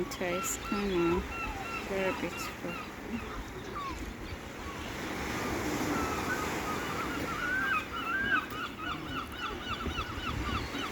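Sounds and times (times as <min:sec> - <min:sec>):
water birds calling: 0:00.0 - 0:10.9
waves washing on shore: 0:00.0 - 0:10.9.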